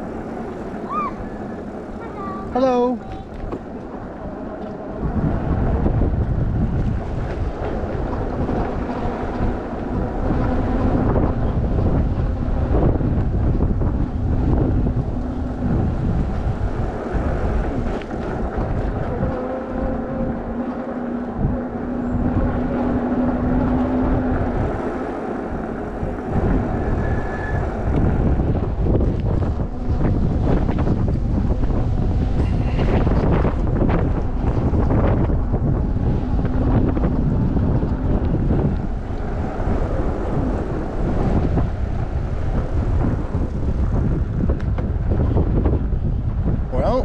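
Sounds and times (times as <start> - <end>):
wind buffeting microphone: 0.0 - 47.0
electric motor humming: 2.6 - 43.9.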